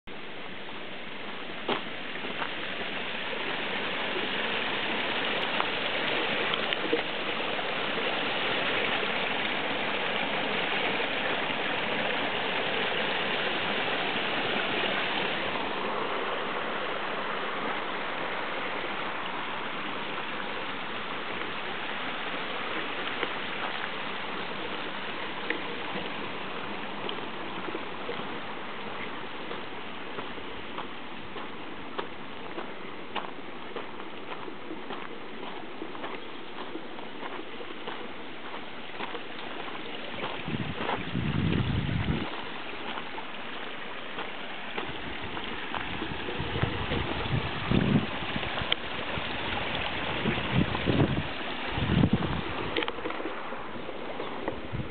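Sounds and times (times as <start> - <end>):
stream babbling over stones: 0.1 - 54.9.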